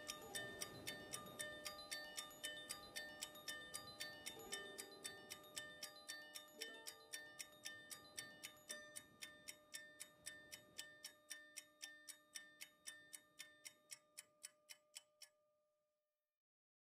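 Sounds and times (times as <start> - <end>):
faint even ticking: 0.0 - 15.4
soft held musical tone: 0.0 - 15.9.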